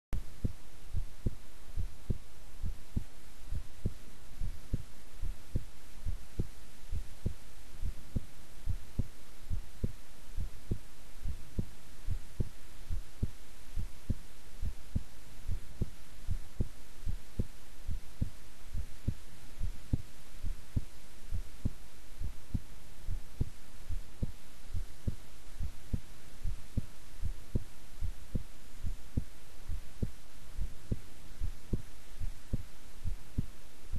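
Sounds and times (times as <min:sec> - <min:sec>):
heartbeat thuds: 0:00.2 - 0:33.6
faint steady hiss: 0:00.2 - 0:33.9.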